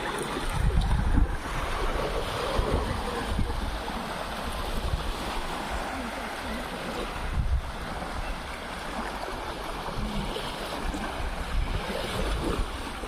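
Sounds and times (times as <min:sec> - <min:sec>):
sea surf washing in: 0:00.0 - 0:13.0
wind buffeting microphone: 0:00.0 - 0:13.0.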